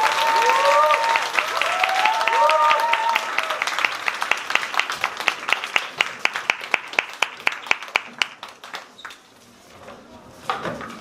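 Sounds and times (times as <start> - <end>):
audience clapping in unison: 0.0 - 9.2
scattered applause: 0.0 - 9.2.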